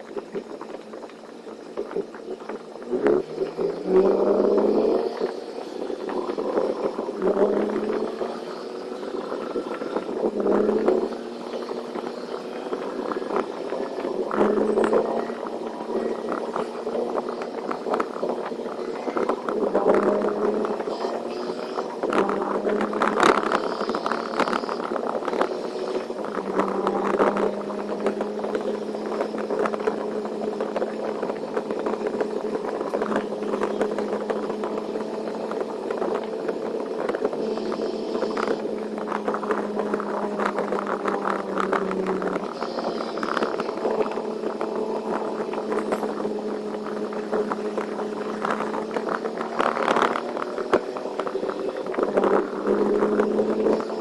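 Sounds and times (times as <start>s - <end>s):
small rattles and clicks: 0.0s - 54.0s
truck engine droning: 0.0s - 54.0s.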